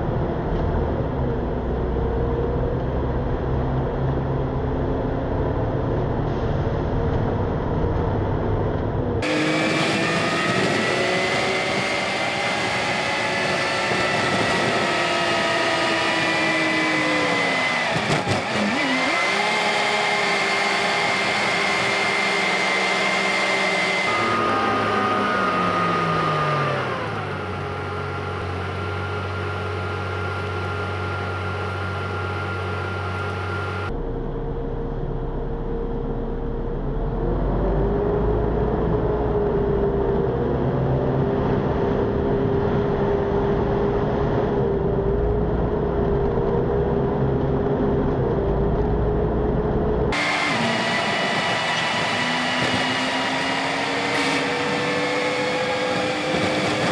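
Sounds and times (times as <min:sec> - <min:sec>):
road noise: 0:00.0 - 0:56.9
bus drivetrain whining: 0:05.1 - 0:34.4, 0:35.0 - 0:56.9.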